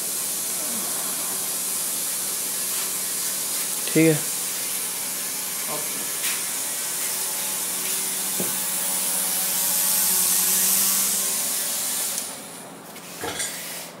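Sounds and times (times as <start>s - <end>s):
electric motor hum: 0.0s - 12.9s.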